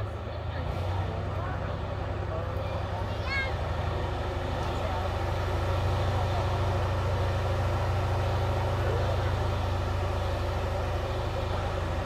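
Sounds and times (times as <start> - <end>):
tank diesel engine running: 0.0 - 12.0.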